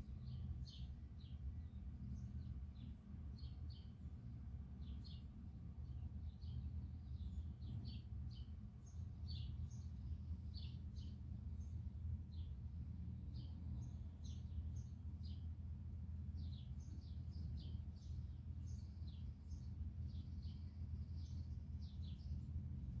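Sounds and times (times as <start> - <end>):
small bird chirping: 0.0 - 12.6, 13.3 - 15.6, 16.3 - 22.7
steady low hum: 0.0 - 23.0.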